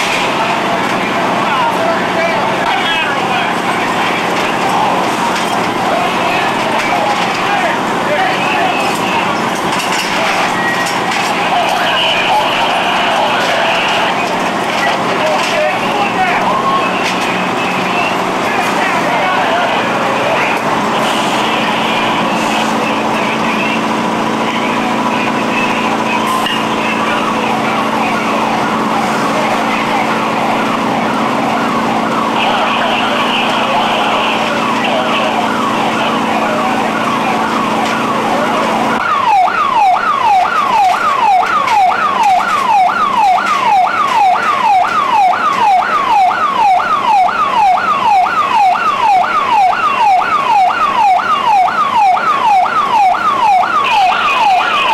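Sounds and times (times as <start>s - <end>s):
emergency vehicle siren: 0.0s - 54.9s.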